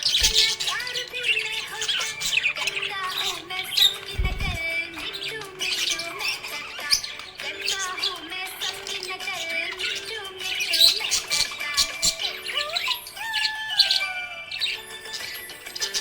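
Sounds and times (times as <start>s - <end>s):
background music: 0.0s - 16.0s
budgies chirping and squawking: 0.0s - 16.0s.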